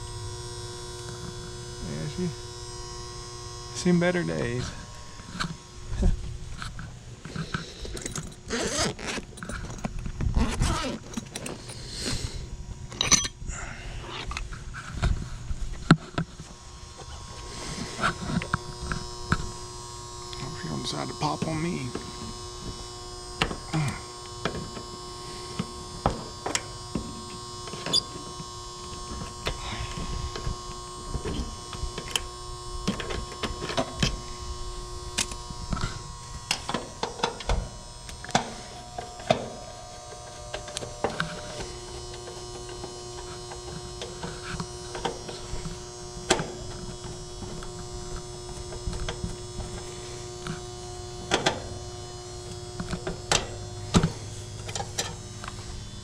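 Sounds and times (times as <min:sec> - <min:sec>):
air conditioner electrical hum: 0:00.0 - 0:56.0.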